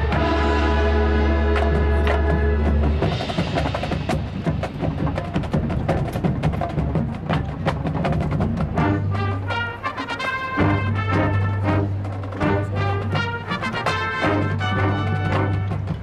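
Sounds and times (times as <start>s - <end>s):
marching band chords: 0.0s - 16.0s.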